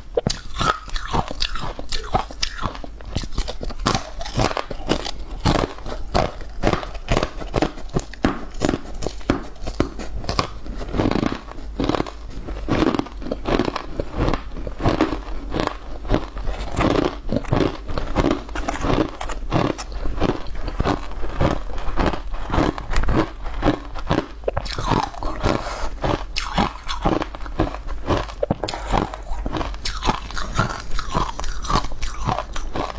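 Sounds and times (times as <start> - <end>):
crunchy snack being chewed: 0.0 - 32.9.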